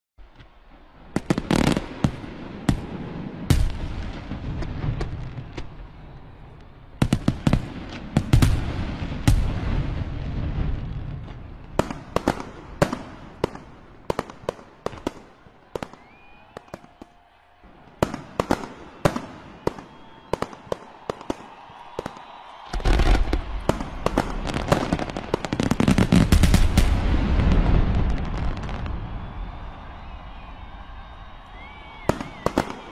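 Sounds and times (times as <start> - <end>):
fireworks bangs and crackles: 0.2 - 32.9.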